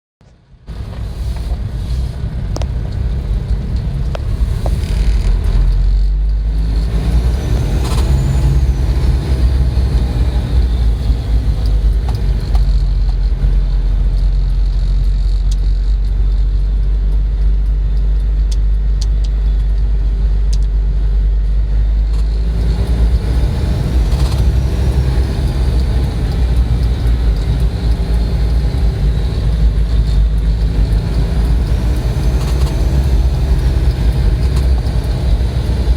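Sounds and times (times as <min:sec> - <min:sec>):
diesel engine revving: 0:00.7 - 0:35.9.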